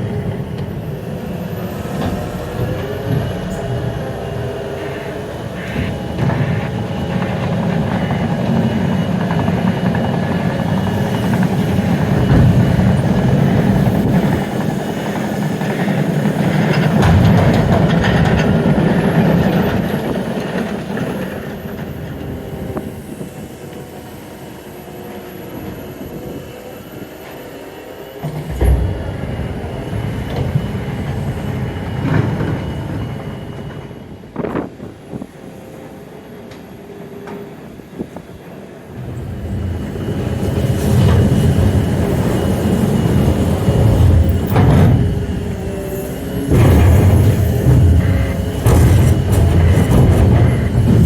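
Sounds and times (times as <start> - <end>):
train rumbling past: 0.0 - 51.0.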